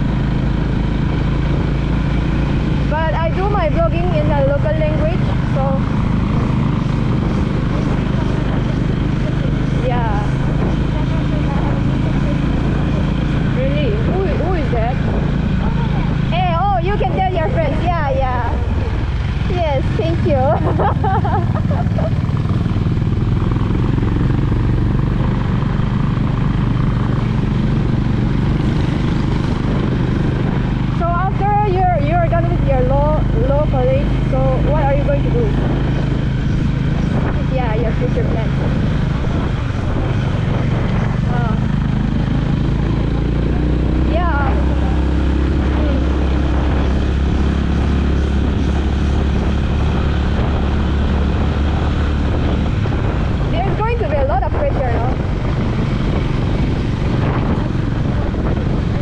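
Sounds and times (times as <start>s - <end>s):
motorcycle engine running: 0.0s - 59.0s
road and wind noise: 0.0s - 59.0s.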